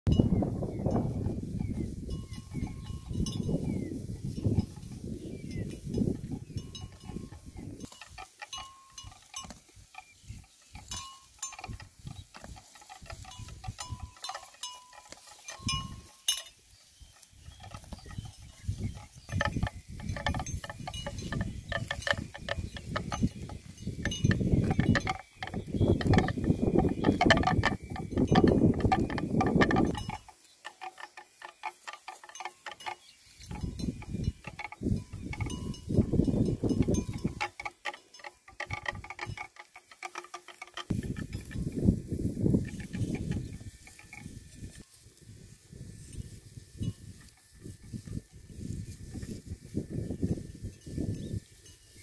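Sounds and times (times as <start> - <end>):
cow tearing and chewing grass: 0.1 - 52.0.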